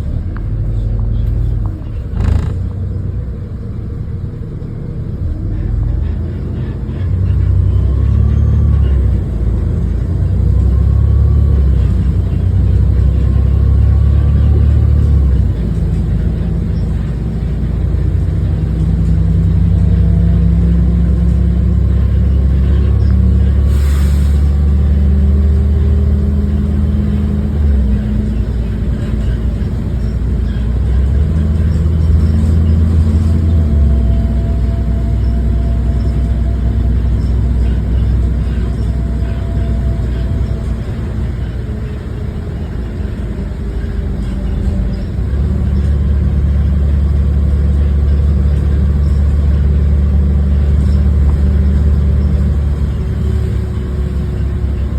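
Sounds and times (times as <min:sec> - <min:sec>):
bus engine running: 0:00.0 - 0:54.9.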